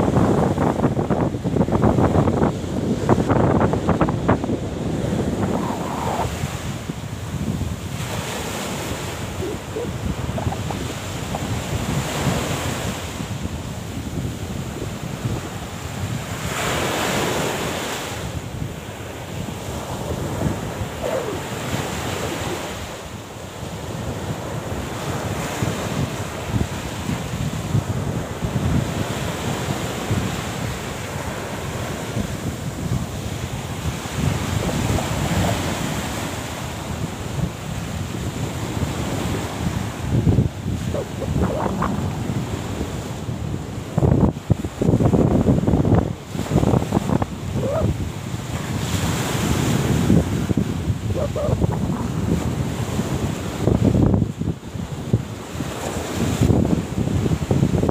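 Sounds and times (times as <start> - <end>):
sea waves washing in: 0.0 - 57.9
wind buffeting microphone: 0.0 - 57.9.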